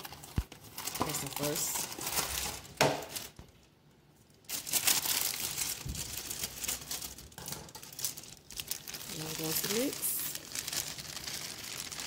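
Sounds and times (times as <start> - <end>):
plastic bag crinkling: 0.0 - 3.6, 4.2 - 12.0.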